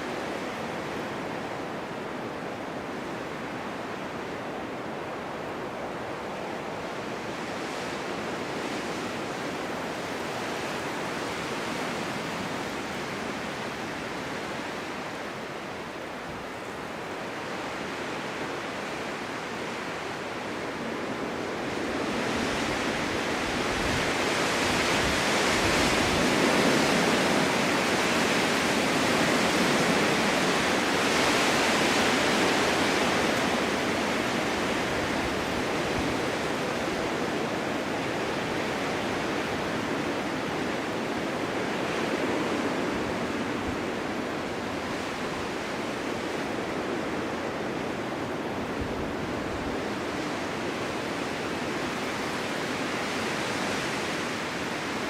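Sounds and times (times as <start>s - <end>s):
strong gusting wind: 0.0s - 55.0s.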